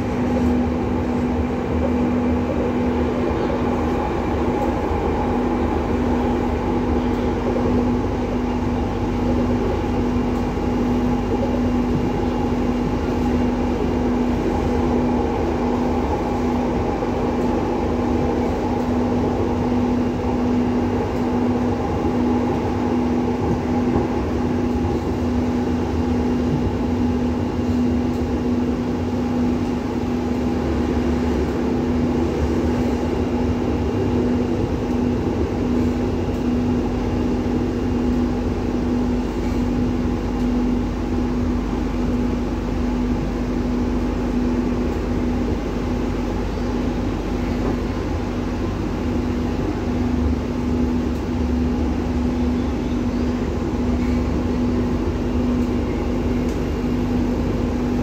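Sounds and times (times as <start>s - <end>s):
constant hum: 0.0s - 58.0s
train car rumble: 0.0s - 58.0s.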